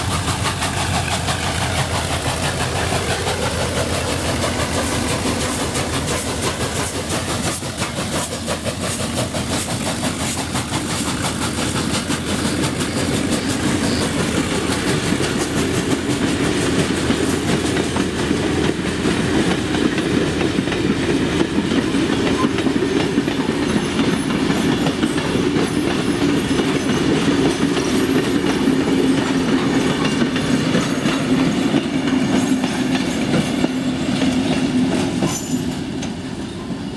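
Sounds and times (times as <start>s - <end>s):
train wheels rumbling: 0.0s - 36.9s
wheels clacking over rail joints: 0.0s - 36.9s.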